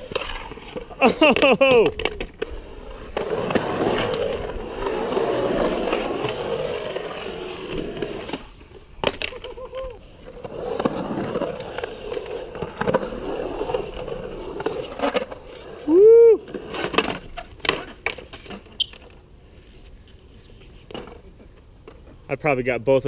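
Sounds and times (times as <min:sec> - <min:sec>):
skateboard clack: 0:00.0 - 0:19.3
skateboard wheels rolling on concrete: 0:00.0 - 0:23.0.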